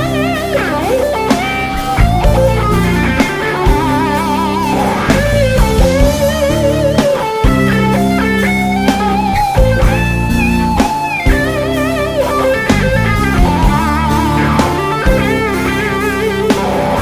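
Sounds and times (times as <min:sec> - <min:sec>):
bluesy electric guitar lead: 0:00.0 - 0:17.0
steady beat: 0:00.0 - 0:17.0.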